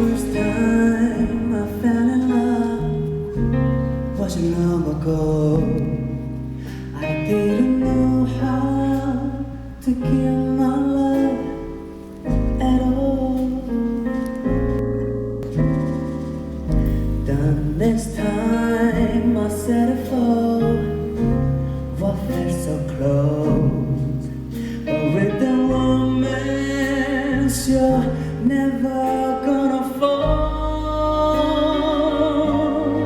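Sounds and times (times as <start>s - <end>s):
live band playing ballad: 0.0s - 33.0s.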